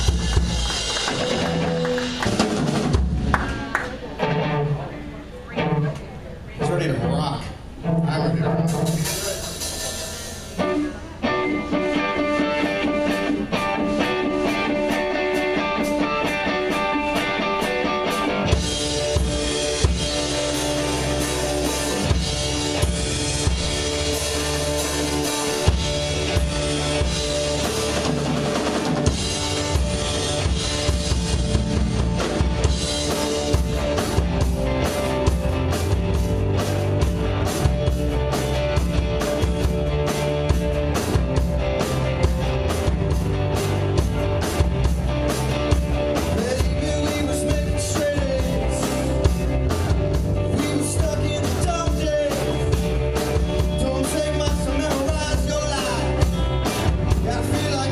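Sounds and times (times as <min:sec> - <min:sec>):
bass guitar: 0:00.0 - 0:57.9
guitar: 0:00.0 - 0:57.9
live rock band playing: 0:00.0 - 0:57.9.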